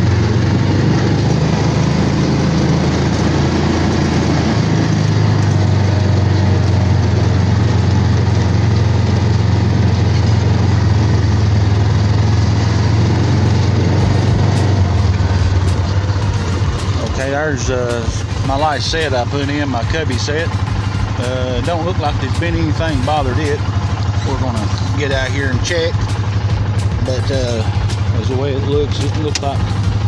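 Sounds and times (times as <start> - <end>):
road noise: 0.0 - 30.0
vehicle engine running: 0.0 - 30.0.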